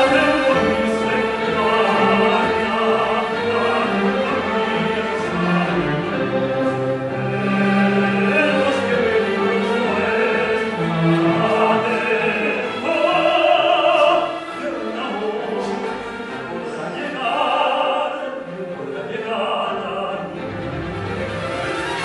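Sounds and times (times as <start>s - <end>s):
man singing operatically: 0.0s - 6.4s, 7.2s - 20.5s
orchestral accompaniment: 0.0s - 22.0s.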